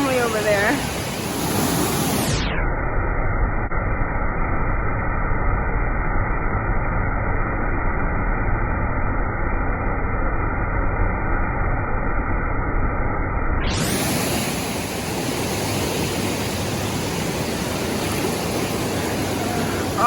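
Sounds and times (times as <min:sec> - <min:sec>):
muffled rushing water: 0:00.0 - 0:20.0.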